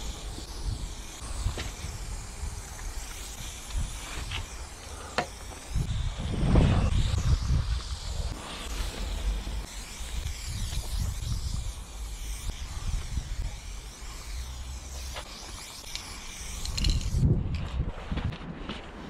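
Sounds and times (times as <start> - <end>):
spray paint can hissing: 0.0 - 17.7.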